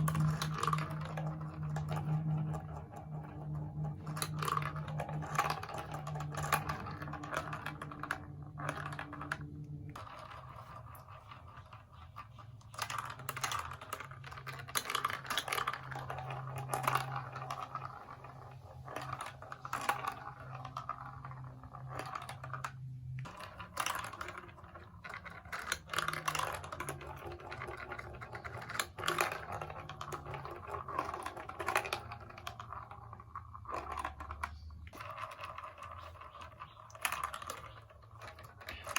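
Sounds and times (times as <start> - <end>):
marbles clicking and clattering: 0.0 - 38.9.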